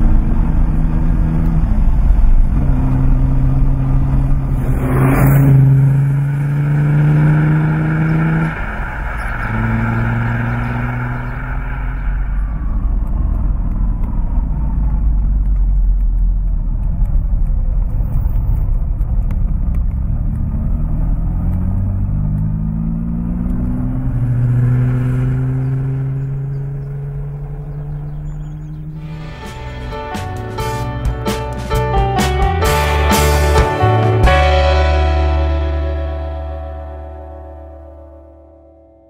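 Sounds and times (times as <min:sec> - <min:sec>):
car engine rumbling and accelerating: 0:00.0 - 0:39.0.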